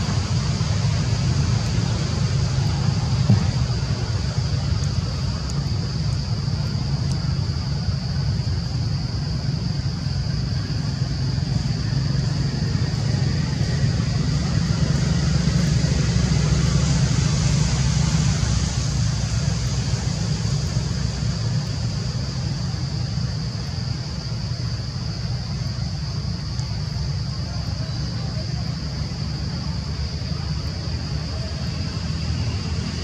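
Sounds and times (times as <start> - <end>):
low rumble: 0.0 - 33.0
steady high-pitched hum: 0.0 - 33.0.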